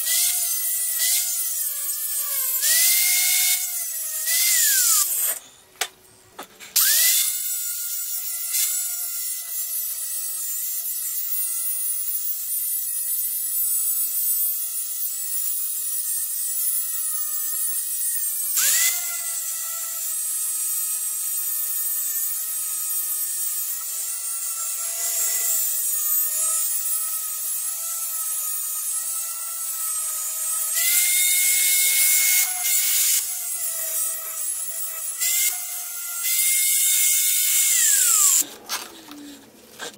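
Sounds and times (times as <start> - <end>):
angle grinder motor whine: 6.8 - 38.9.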